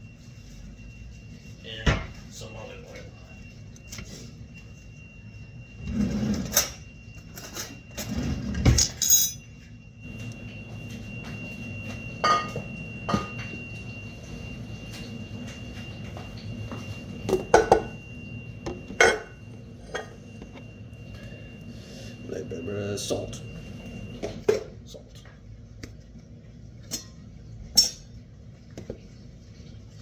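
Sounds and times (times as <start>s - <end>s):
thin high whine: 0.0s - 24.5s.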